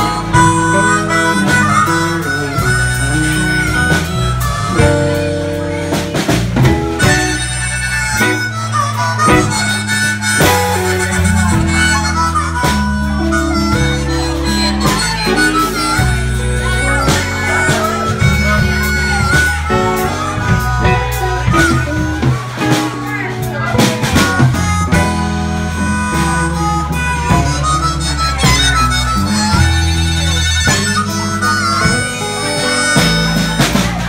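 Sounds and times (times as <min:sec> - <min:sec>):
blues band playing: 0:00.0 - 0:34.0
blues harmonica solo: 0:00.0 - 0:34.0.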